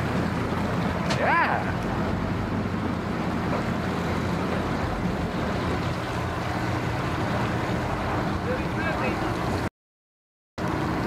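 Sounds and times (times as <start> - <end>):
water wash: 0.0 - 9.7, 10.6 - 11.0
watercraft engine idling: 0.0 - 9.7, 10.6 - 11.0.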